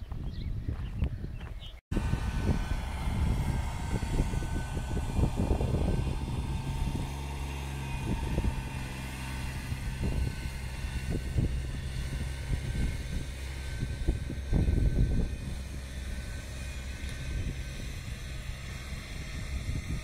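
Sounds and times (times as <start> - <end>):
wind buffeting microphone: 0.0 - 20.0
tractor engine running: 1.9 - 20.0.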